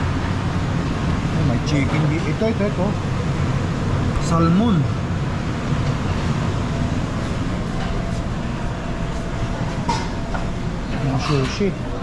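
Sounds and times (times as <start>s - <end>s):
low rumbling room noise: 0.0s - 12.0s.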